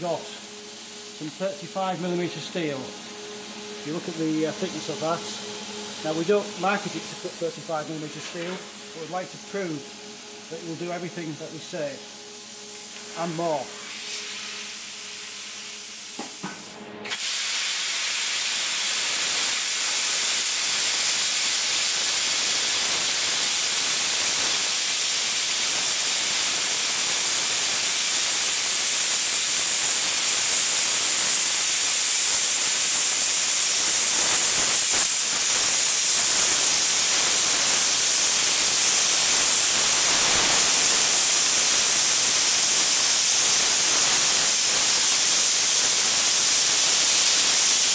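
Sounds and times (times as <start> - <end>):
plasma cutter arc hissing: 0.0 - 16.4, 17.0 - 47.9.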